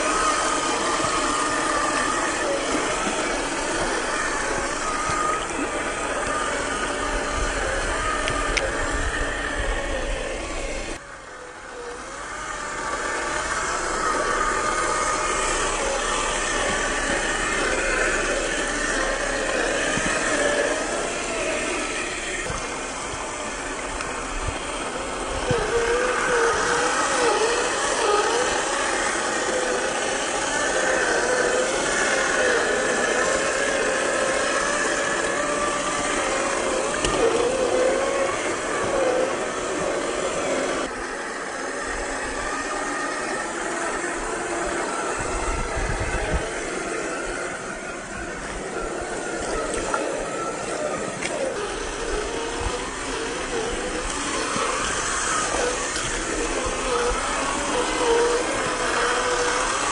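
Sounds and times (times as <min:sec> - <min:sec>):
creek water rushing: 0:00.0 - 0:59.9
electric motor whine: 0:00.0 - 0:59.9.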